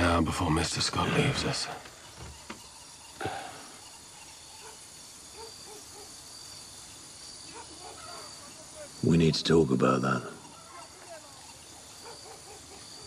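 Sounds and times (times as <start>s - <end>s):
faint chirps: 0.0s - 13.0s
high insect drone: 0.0s - 13.0s.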